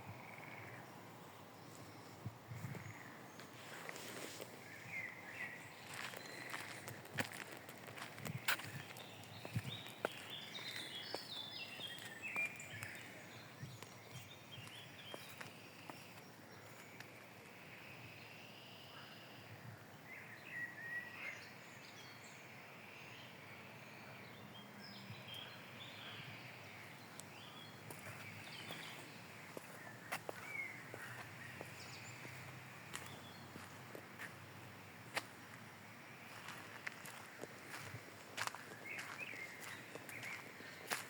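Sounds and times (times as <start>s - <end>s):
songbirds singing and chirping: 0.0s - 41.0s.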